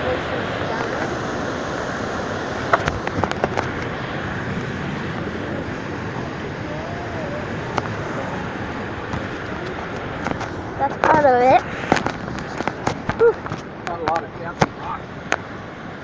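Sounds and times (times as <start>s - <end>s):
waterfall and river rushing: 0.0s - 13.9s.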